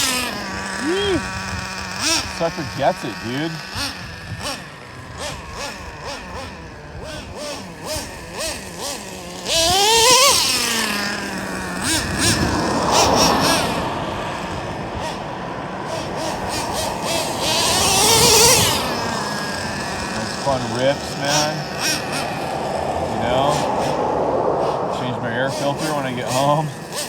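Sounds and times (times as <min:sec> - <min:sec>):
rc truck nitro engine revving: 0:00.0 - 0:27.0.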